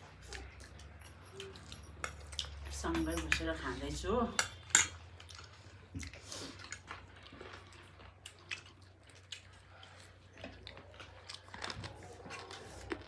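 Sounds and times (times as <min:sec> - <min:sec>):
person chewing food: 0:00.0 - 0:02.6, 0:04.6 - 0:13.0.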